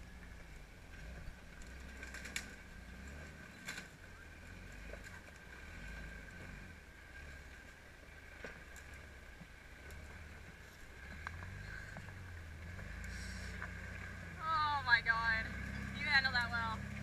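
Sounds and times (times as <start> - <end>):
engine rumbling at low revs: 0.0 - 17.0.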